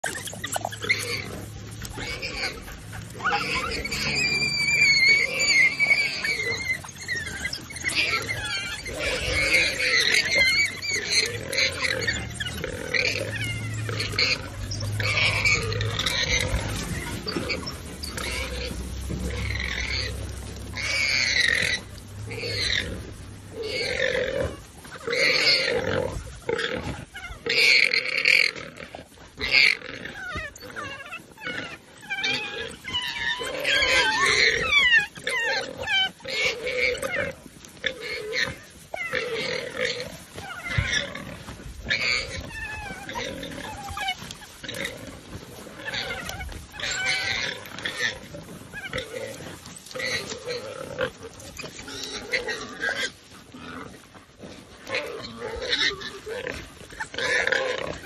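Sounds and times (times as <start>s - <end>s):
warthog squealing in distress: 0.0s - 58.0s.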